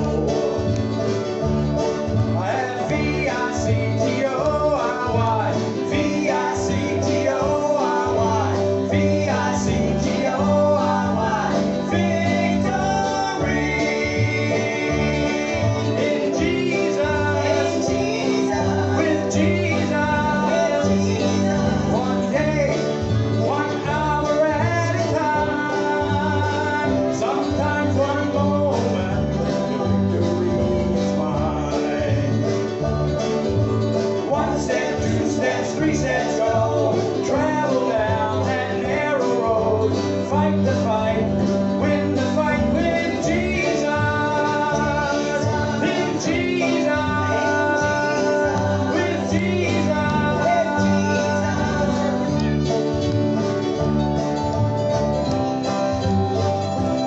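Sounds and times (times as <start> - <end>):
guitar: 0.0 - 57.0
stepping bass line: 0.0 - 57.0
voices singing: 0.0 - 57.0.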